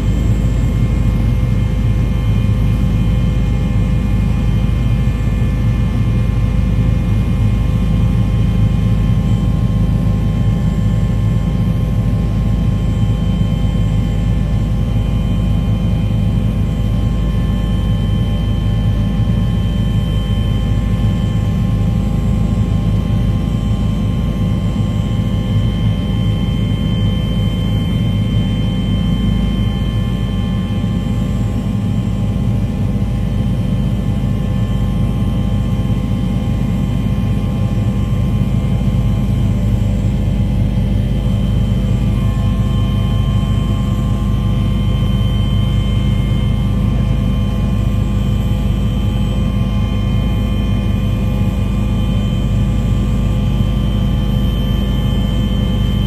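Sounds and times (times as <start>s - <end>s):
aircraft engine rumble: 0.0s - 56.0s
constant whining tones: 0.0s - 56.0s.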